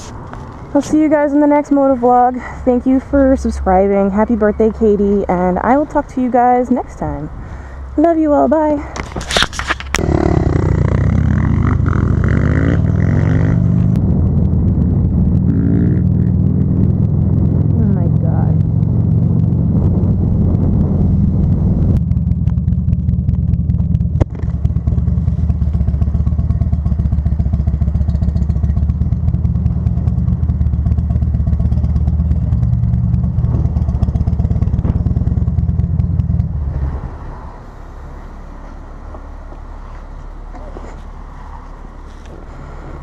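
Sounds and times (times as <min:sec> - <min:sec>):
motorcycle engine rumbling: 0:00.0 - 0:43.0.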